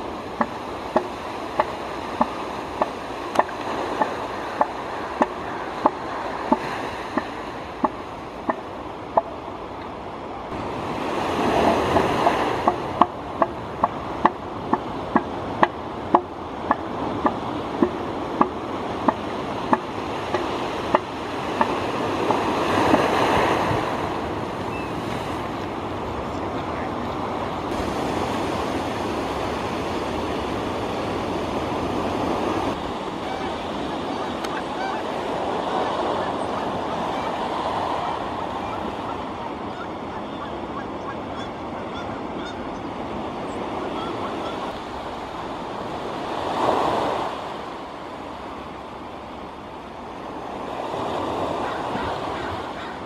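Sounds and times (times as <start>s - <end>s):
surf washing onto beach: 0.0s - 53.0s.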